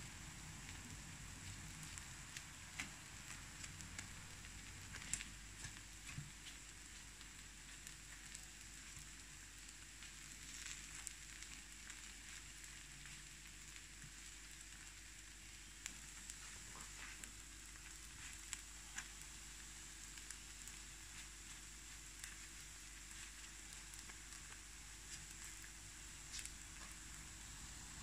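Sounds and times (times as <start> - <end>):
batter balls sizzling faintly: 0.0 - 28.0.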